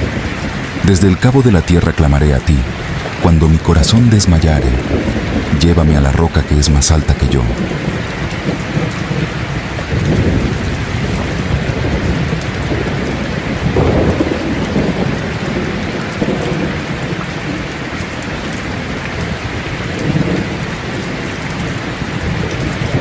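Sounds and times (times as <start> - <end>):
rain pouring: 0.0 - 23.0
rolling thunder: 0.0 - 23.0.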